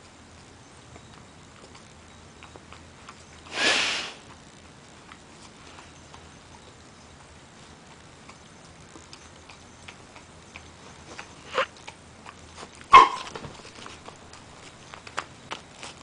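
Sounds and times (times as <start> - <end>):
dog gnawing on dry chew: 0.0 - 16.0.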